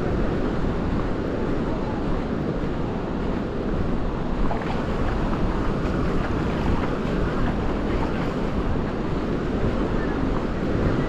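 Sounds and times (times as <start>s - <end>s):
sea surf: 0.0s - 11.0s
wind buffeting microphone: 0.0s - 11.0s.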